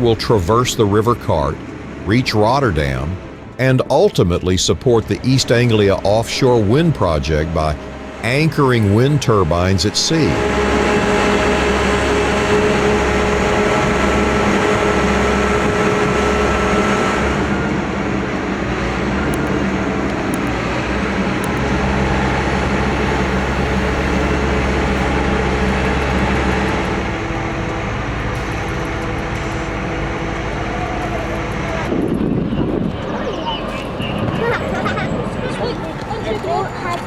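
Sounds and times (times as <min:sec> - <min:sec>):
heavy vehicle engines rumbling: 0:00.0 - 0:37.0.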